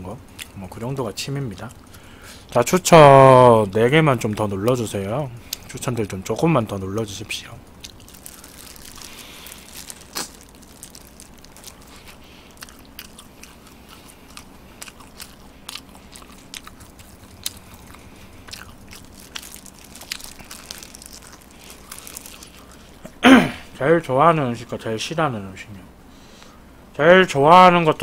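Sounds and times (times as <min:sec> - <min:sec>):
chewing and crunching: 0:00.2 - 0:23.2.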